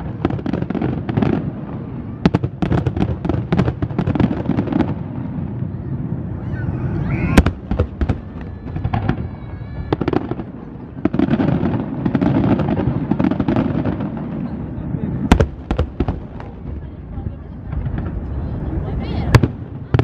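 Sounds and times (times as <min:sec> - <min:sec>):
firework bangs: 0:00.0 - 0:20.0
fireworks rumbling and crackling: 0:00.0 - 0:20.0.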